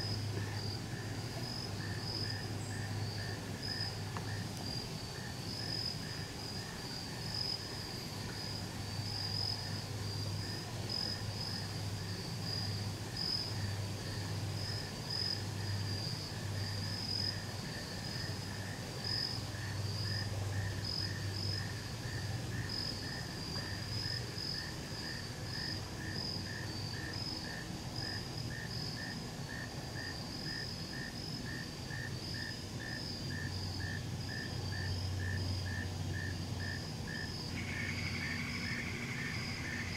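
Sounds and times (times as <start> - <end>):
high pulsing cricket chirp: 0.0 - 39.9
lower cricket chirp: 0.0 - 39.9.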